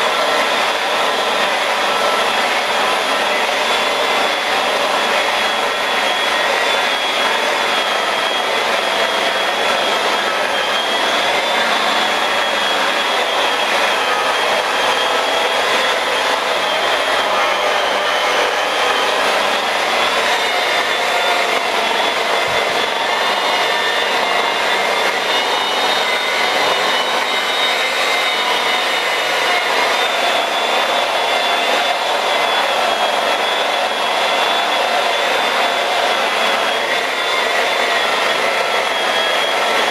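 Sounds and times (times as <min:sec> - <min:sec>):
rotary polisher whine: 0:00.0 - 0:39.9.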